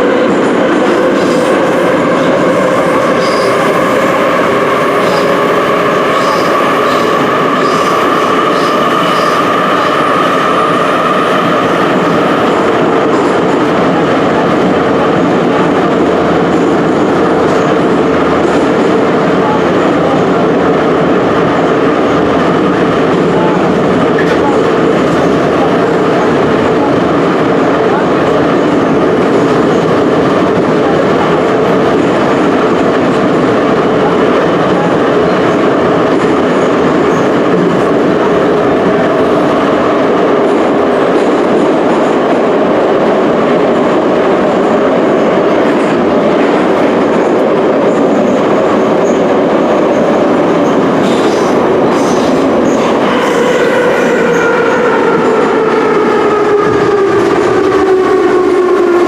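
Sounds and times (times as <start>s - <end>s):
metro train running through tunnel: 0.0s - 59.0s.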